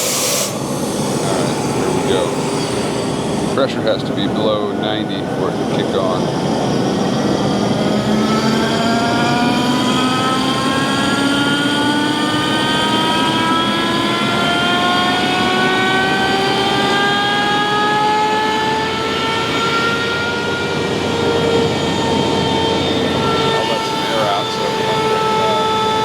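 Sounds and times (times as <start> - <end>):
machine noise: 0.0 - 26.0
motor whine rising in pitch: 0.0 - 26.0.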